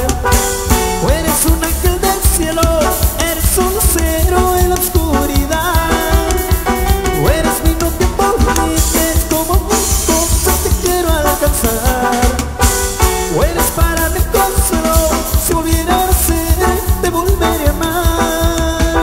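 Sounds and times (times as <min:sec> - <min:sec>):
latin band music: 0:00.0 - 0:19.0.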